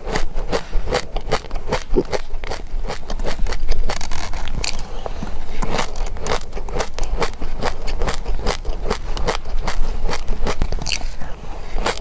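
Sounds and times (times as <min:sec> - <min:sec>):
crunchy seeds chewing: 0:00.0 - 0:12.0.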